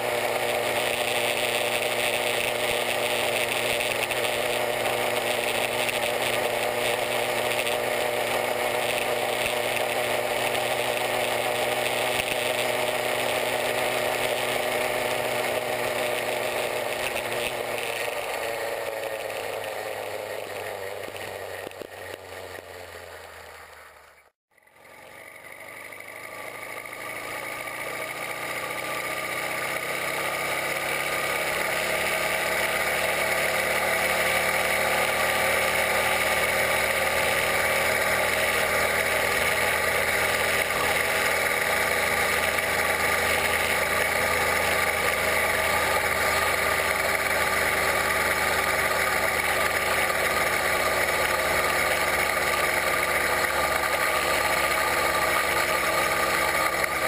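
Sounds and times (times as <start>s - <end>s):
two-stroke engine running: 0.0s - 57.0s.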